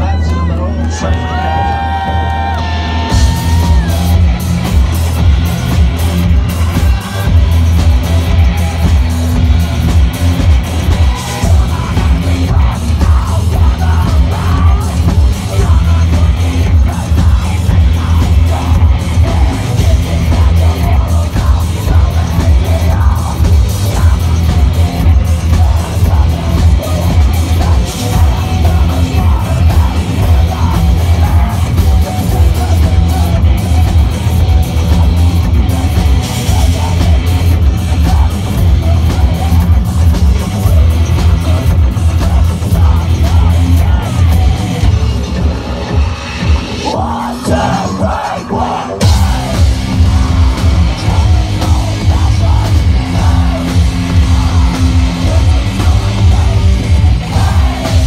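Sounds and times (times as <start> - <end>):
person singing: 0.0 - 46.1, 46.8 - 58.0
bass guitar: 0.0 - 58.0
distorted electric guitars: 0.0 - 58.0
drum kit: 1.2 - 58.0.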